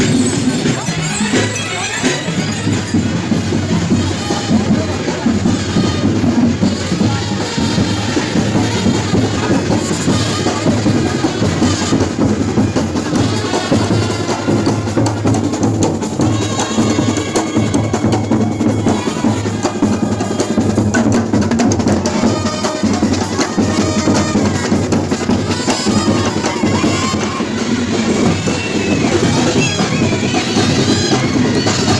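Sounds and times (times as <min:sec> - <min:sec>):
drum-led percussion music: 0:00.0 - 0:31.9.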